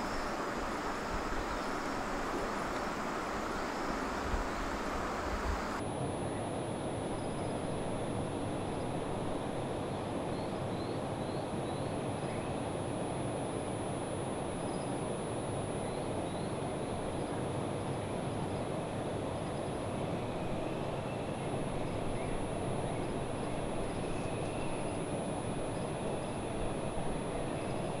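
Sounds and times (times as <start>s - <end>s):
faint high whine: 0.0s - 28.0s.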